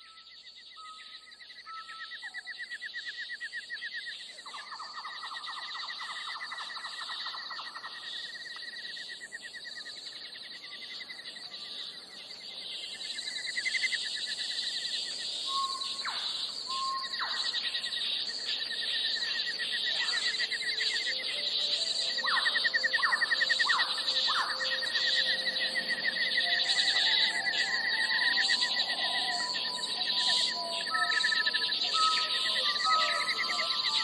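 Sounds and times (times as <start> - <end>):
whistled bird calls: 0.0 - 10.0, 12.8 - 34.0
insects trilling: 0.0 - 34.0.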